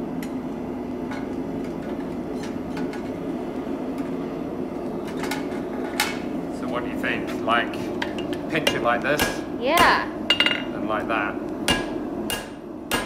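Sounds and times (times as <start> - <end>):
gas forge burner rushing: 0.0 - 13.0.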